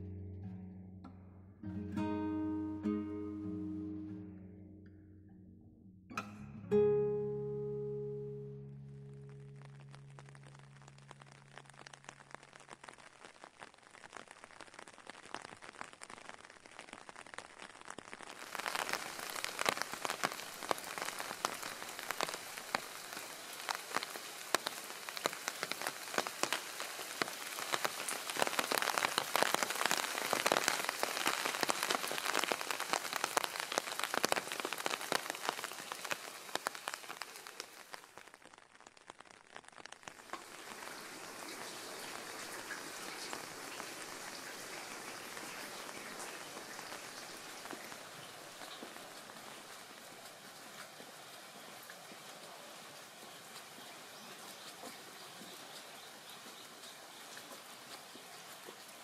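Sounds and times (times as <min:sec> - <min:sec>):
steady rain falling: 0:07.2 - 0:59.0.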